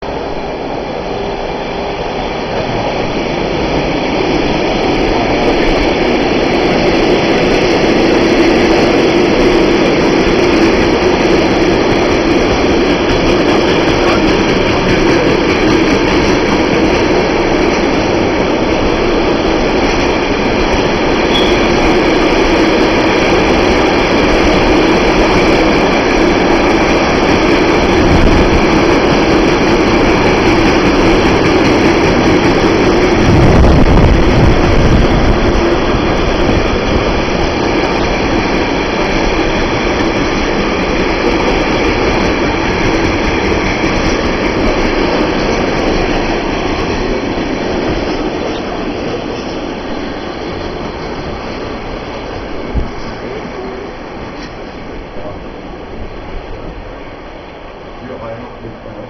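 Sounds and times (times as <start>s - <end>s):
freight train rumbling on rails: 0.0s - 59.0s.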